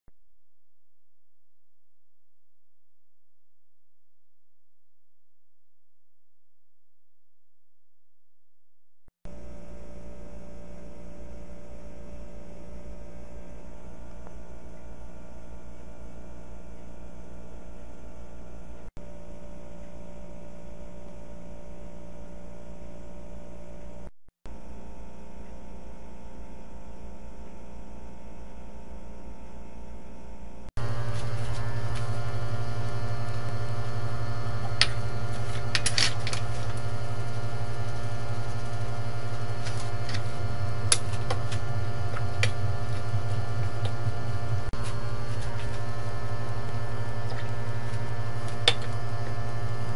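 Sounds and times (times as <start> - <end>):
low electrical hum: 9.3 - 49.9.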